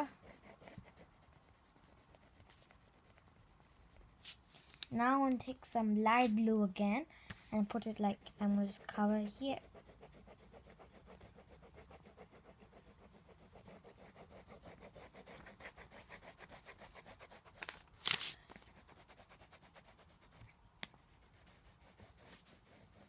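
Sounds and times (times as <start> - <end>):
colouring strokes on paper: 0.0 - 4.5, 7.4 - 17.7, 18.6 - 23.0.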